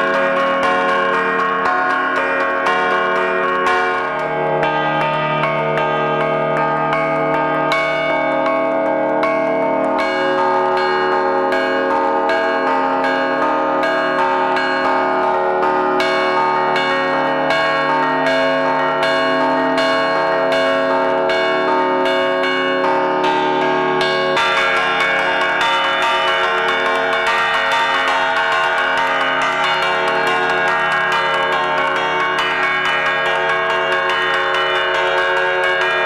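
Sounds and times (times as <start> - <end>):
church bells struck with mallet: 0.0 - 36.0.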